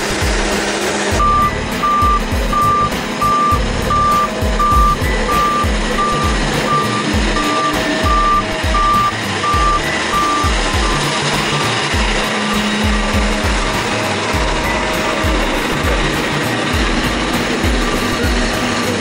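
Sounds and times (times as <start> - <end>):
background music with steady beat: 0.0 - 19.0
road roller reversing alarm beeping: 1.2 - 18.6.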